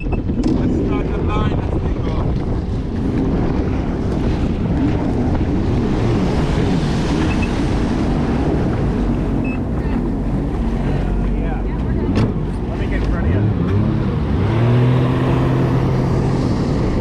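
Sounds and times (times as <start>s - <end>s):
jet ski engine running: 0.0s - 17.0s
wind buffeting microphone: 0.0s - 17.0s.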